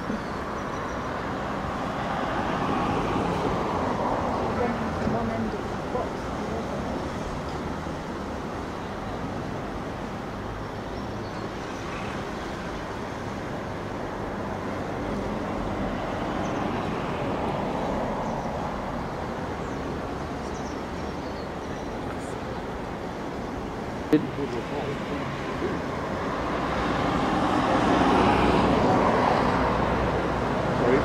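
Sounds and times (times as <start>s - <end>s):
city road traffic: 0.0s - 31.0s.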